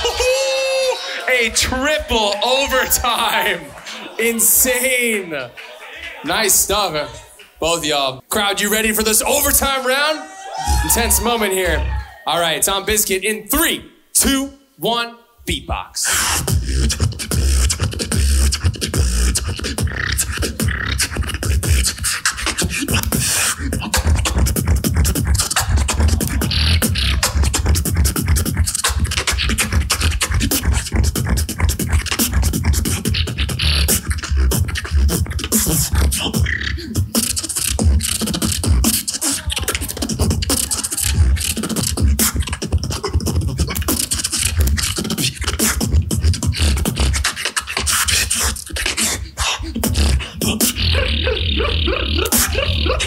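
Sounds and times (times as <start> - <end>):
beatboxing: 0.0 - 7.1, 10.6 - 12.0, 15.5 - 53.0.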